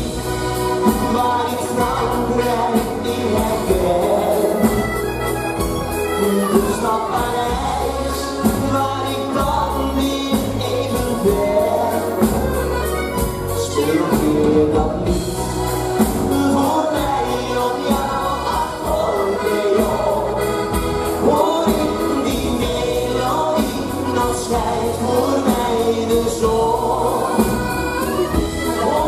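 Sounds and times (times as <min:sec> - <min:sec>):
pop band with accordions: 0:00.0 - 0:29.0
man singing into a microphone: 0:00.7 - 0:29.0.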